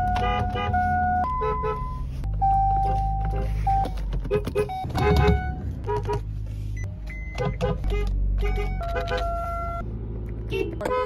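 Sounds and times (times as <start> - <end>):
car horns honking: 0.0 - 6.3, 7.1 - 9.8, 10.4 - 11.0.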